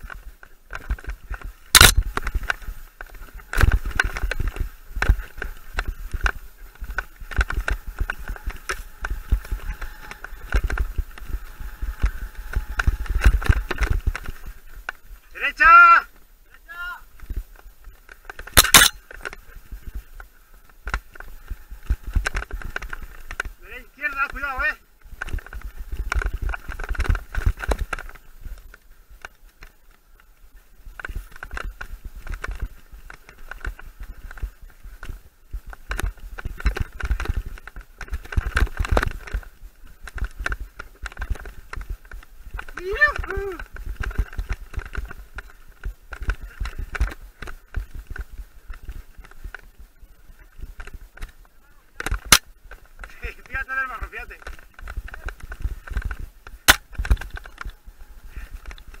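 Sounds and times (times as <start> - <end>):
bike and mount rattling: 0.0 - 59.0
tyre and wind noise: 0.0 - 59.0.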